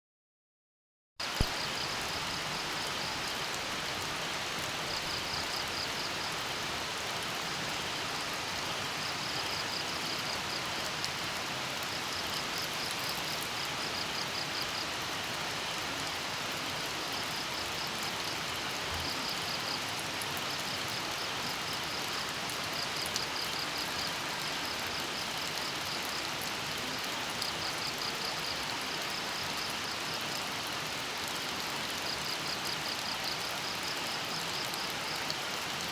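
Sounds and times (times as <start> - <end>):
steady rain falling: 1.2 - 35.9.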